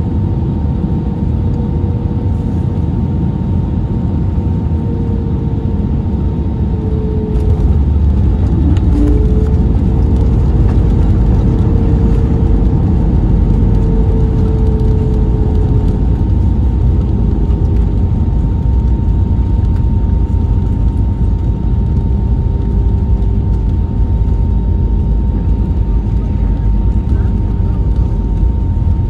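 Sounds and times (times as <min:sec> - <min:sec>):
jet engine whine: 0:00.0 - 0:29.0
wheels rumbling on runway: 0:00.0 - 0:29.0
low sagging tone: 0:04.7 - 0:29.0.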